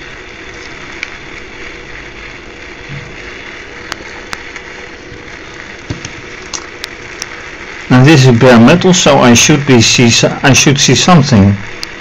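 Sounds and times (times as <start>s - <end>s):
small electric motor whirring: 0.0s - 12.0s.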